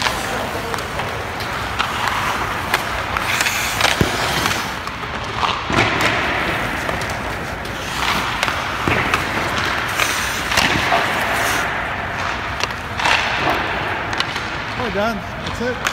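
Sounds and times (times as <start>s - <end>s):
skates scraping on ice: 0.0s - 15.9s
stick and puck clacks: 0.0s - 15.9s.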